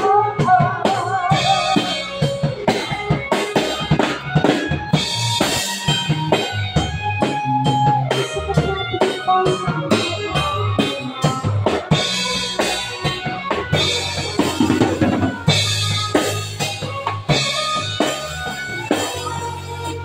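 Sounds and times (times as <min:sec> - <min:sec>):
acoustic drum kit beat: 0:00.0 - 0:20.0
live band song: 0:00.0 - 0:20.0
low bass notes: 0:00.0 - 0:20.0.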